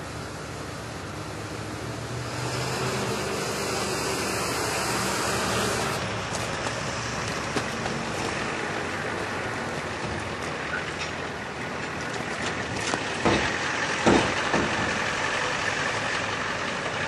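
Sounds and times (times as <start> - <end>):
steady traffic hiss: 0.0 - 17.0
vehicle engine running close: 0.0 - 17.0.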